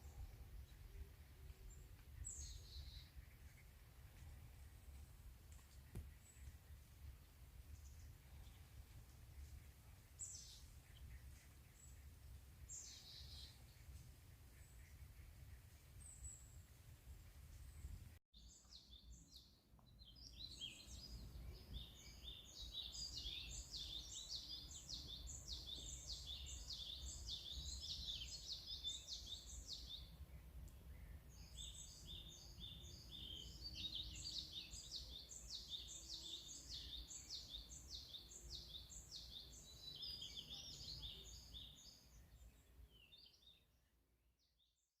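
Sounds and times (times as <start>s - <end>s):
bird chirping: 0.0s - 4.2s, 7.7s - 16.8s, 17.5s - 43.8s.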